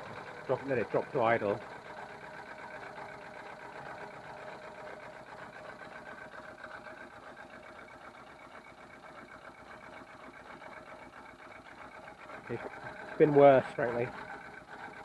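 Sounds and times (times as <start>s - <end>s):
rough car engine idling: 0.0s - 15.0s.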